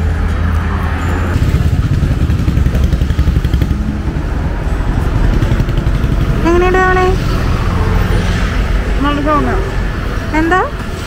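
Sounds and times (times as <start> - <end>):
roadside traffic: 0.0 - 11.0
motorcycle engine throbbing: 1.1 - 11.0.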